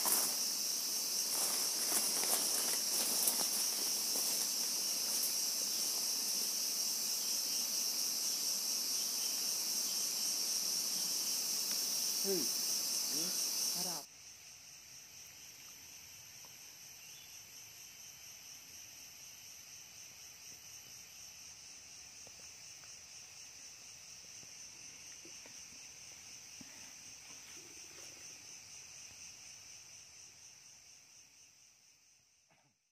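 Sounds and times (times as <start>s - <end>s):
forest insects trilling: 0.0s - 32.5s.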